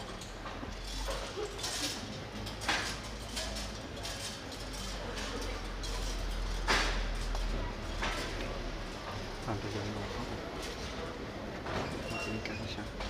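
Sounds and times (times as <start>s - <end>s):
street crowd ambience: 0.0s - 13.0s.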